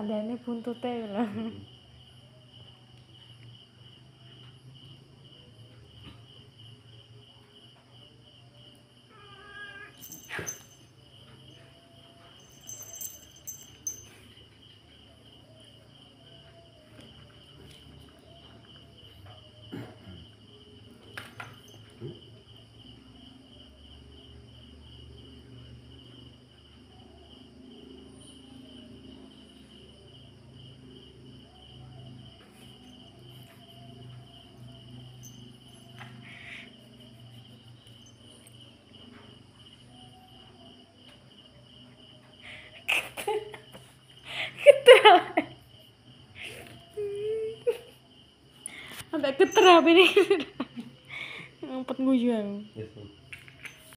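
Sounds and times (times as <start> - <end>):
cricket chirring: 0.0 - 53.9.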